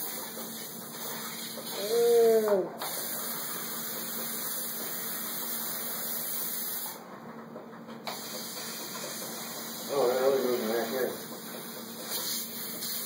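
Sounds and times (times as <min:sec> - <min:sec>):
aerosol can spraying: 0:00.0 - 0:07.0, 0:08.0 - 0:13.0.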